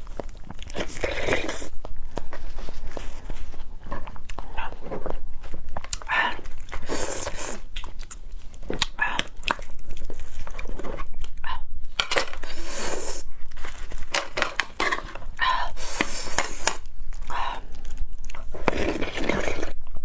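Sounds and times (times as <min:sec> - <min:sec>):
mouth sounds of eating: 0:00.0 - 0:19.8.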